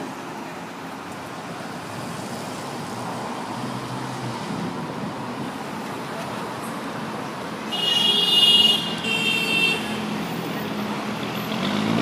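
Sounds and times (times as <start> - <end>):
passing cars: 0.0 - 12.0.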